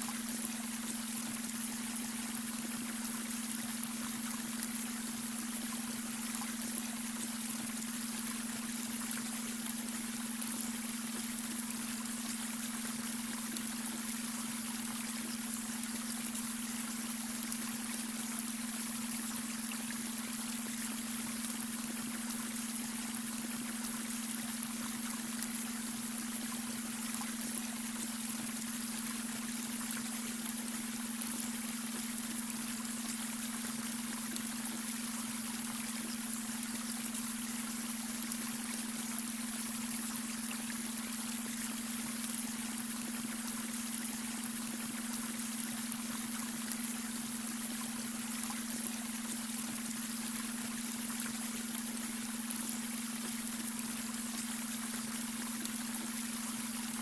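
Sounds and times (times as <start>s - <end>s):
brook water trickling: 0.0s - 57.0s.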